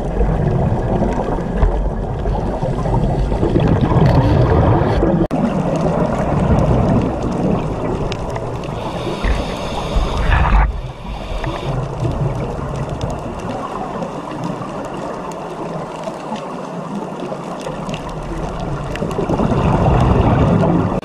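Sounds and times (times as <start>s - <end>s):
faint underwater clicks: 0.0s - 20.8s
underwater rushing and gurgling: 0.0s - 21.0s.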